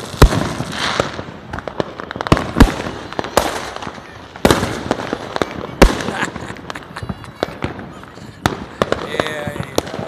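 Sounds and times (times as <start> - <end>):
fireworks banging: 0.0 - 10.0
fireworks crackling pops: 0.0 - 10.0.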